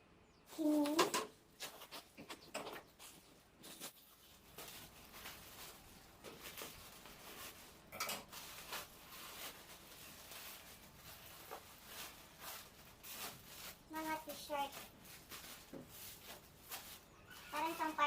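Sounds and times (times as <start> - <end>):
packaging rustling and crinkling: 3.0 - 18.0.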